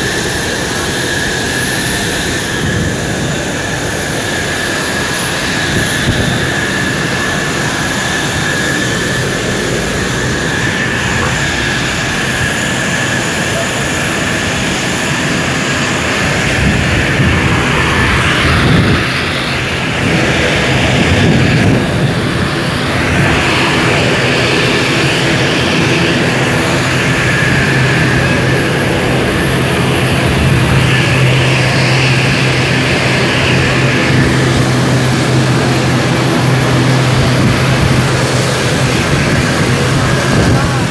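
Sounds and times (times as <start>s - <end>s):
high whine: 0.0s - 40.9s
jet engines rushing: 0.0s - 40.9s.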